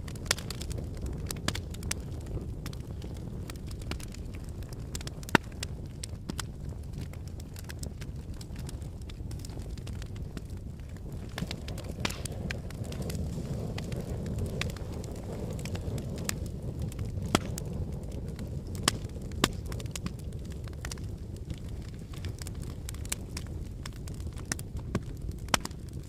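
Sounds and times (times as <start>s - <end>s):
fire crackling and rumbling: 0.0s - 26.0s
sharp fire pops: 0.0s - 26.0s.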